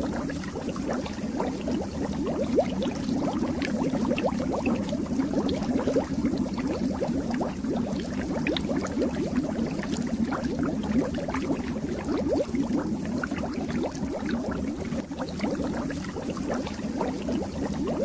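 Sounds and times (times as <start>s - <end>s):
fish tank water bubbling: 0.0s - 18.0s.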